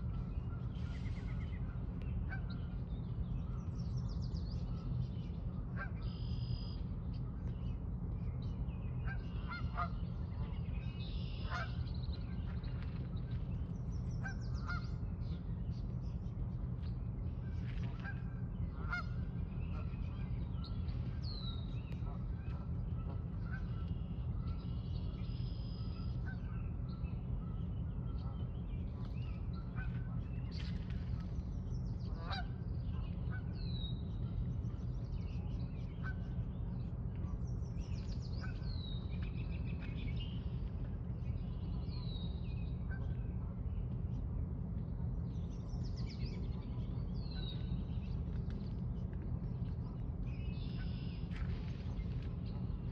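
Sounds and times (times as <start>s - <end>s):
steady low rumble: 0.0s - 52.9s.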